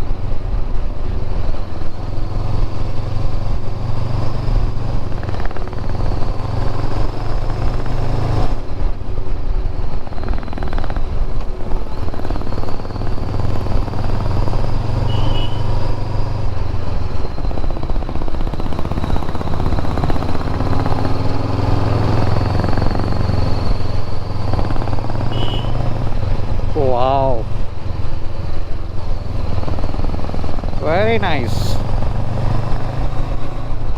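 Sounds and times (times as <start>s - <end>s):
motorcycle engine running: 0.0s - 33.9s
road and wind noise: 0.0s - 33.9s.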